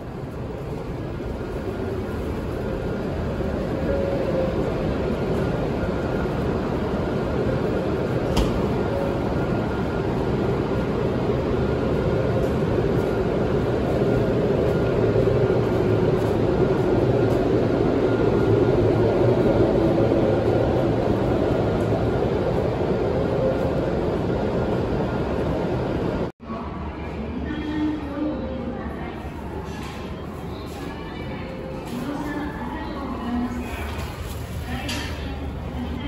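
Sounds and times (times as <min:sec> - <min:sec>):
train equipment hum and fan noise: 0:00.0 - 0:36.0.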